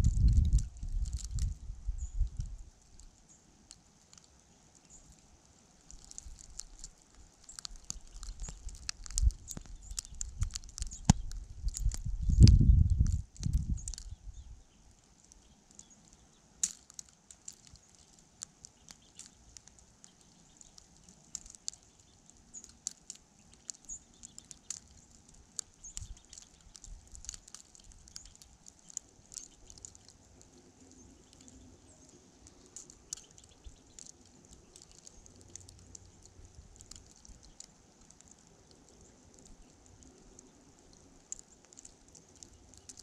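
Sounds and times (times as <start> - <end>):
frozen precipitation ticking: 0.0 - 43.0
low rumble of wind: 0.0 - 43.0.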